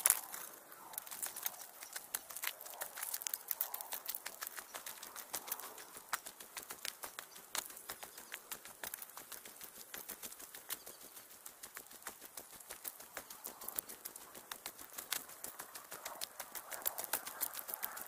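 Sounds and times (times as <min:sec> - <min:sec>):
footsteps crunching on trail: 0:00.0 - 0:18.0.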